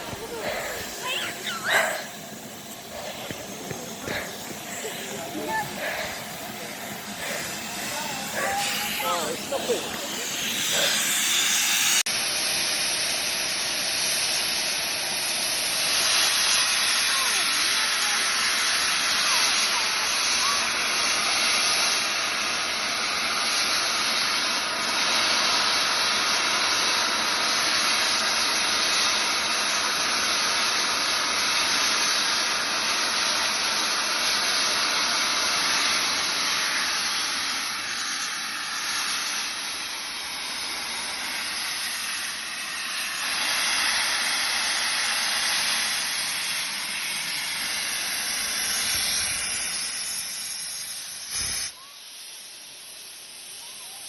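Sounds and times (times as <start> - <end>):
steam hissing from locomotive: 0.0 - 54.0.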